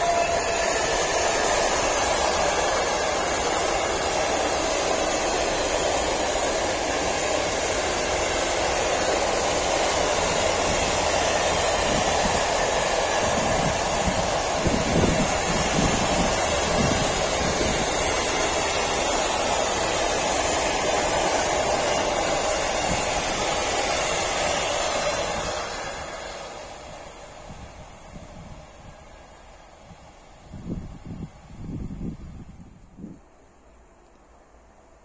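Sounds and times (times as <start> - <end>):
electric locomotive whine: 0.0 - 35.0
train wheels running on rails: 0.0 - 35.0.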